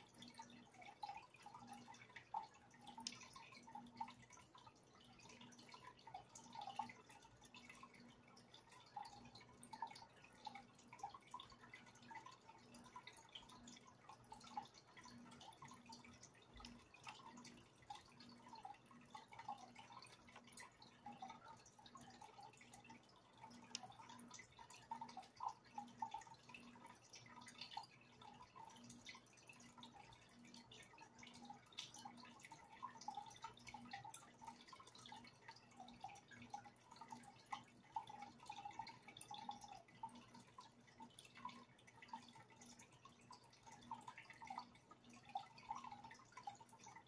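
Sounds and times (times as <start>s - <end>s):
aquarium water dripping: 0.0s - 47.0s
low steady hum: 0.0s - 47.0s.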